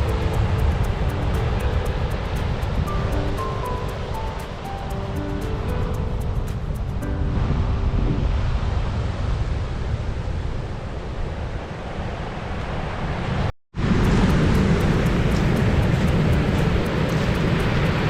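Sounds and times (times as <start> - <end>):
wind buffeting microphone: 0.0 - 13.2, 13.8 - 18.0
heavy surf breaking: 0.0 - 18.0.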